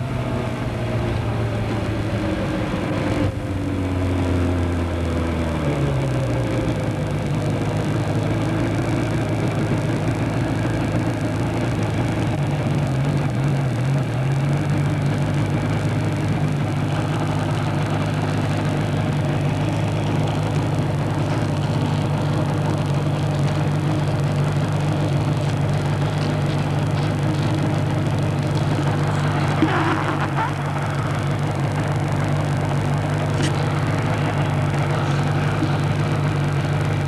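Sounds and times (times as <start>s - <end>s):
motorcycle engine running: 0.0s - 37.0s
road noise: 0.0s - 37.0s.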